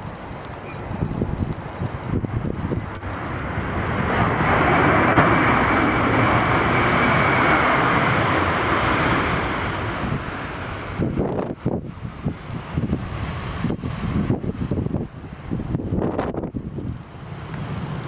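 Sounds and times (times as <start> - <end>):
jet engines rushing: 0.0 - 18.0
wind buffeting microphone: 0.0 - 18.0.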